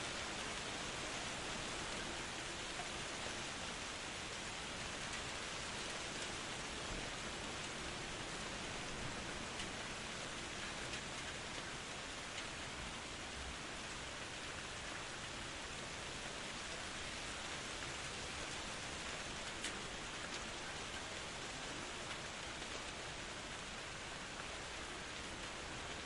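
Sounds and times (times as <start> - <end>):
rain falling in a forest: 0.0 - 26.0.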